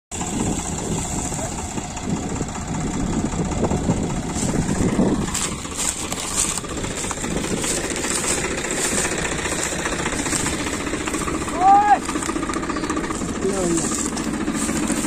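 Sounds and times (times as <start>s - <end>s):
tractor diesel engines running: 0.1s - 15.0s.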